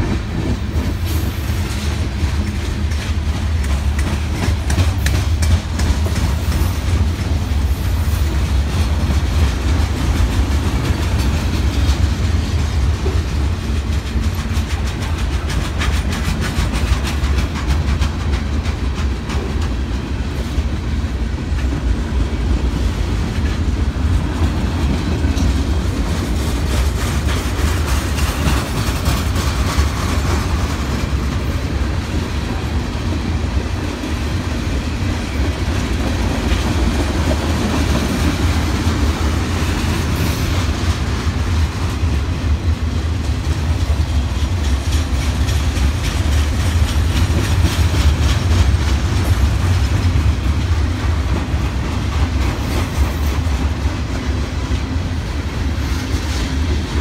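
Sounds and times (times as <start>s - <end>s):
freight train rumbling past: 0.0s - 57.0s
wheels clacking over rail joints: 0.0s - 57.0s.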